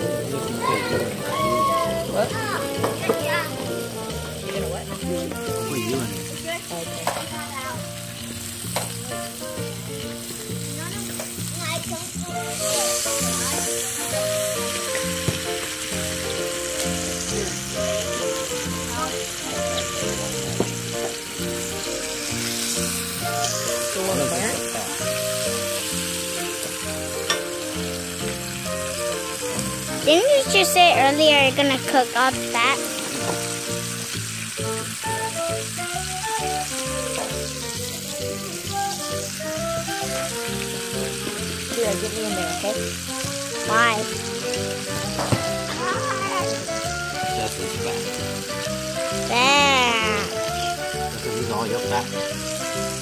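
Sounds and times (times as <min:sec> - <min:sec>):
music of held notes: 0:00.0 - 0:53.0
steak sizzling in a skillet: 0:00.0 - 0:53.0.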